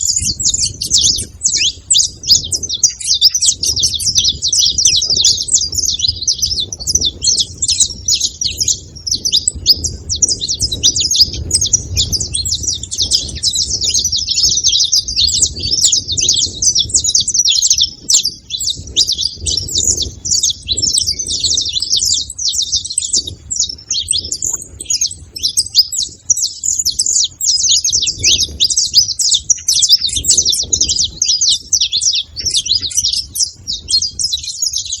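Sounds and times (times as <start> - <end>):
finch chirping and singing: 0.0 - 35.0.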